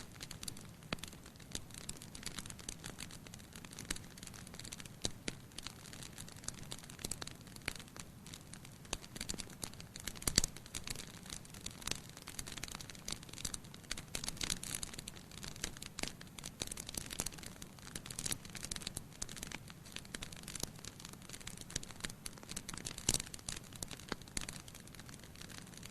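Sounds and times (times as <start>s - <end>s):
faint steady hiss: 0.0s - 25.9s
firewood crackling and popping: 0.0s - 25.9s.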